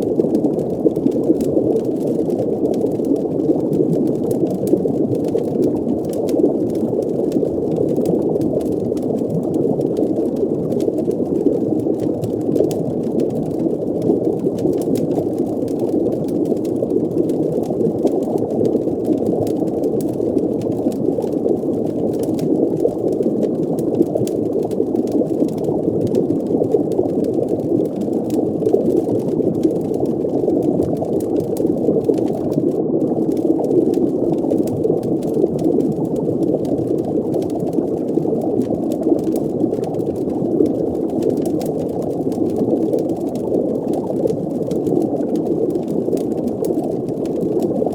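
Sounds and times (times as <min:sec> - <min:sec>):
bubbling: 0:00.0 - 0:47.9
faint crackles: 0:00.0 - 0:47.9
muffled underwater rumble: 0:00.0 - 0:47.9.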